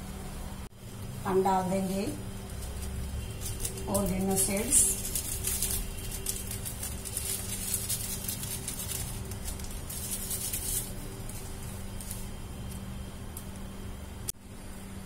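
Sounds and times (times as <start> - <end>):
steady low hum: 0.0 - 15.0
faint crackling of toasting bread: 1.9 - 14.4.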